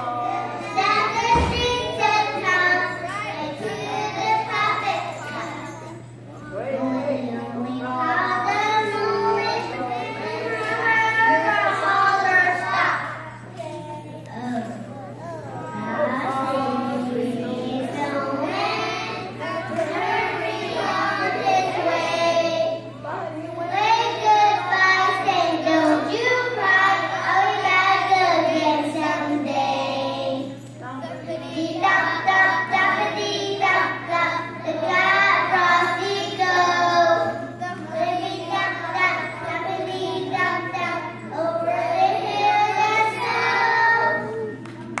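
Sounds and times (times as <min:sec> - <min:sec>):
children singing: 0:00.0 - 0:14.0, 0:14.7 - 0:23.0, 0:23.6 - 0:30.6, 0:31.3 - 0:44.6.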